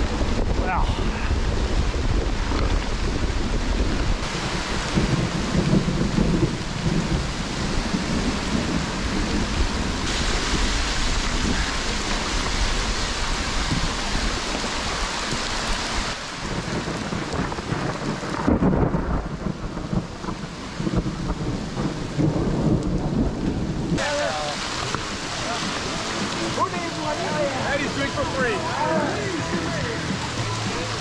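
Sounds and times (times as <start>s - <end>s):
heavy rain hissing on camera: 0.0s - 31.0s.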